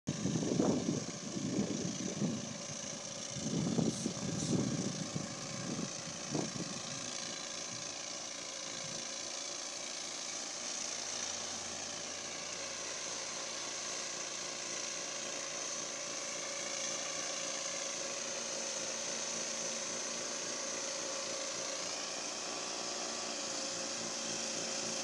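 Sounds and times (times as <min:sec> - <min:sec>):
garden tractor engine running: 0:00.1 - 0:25.0.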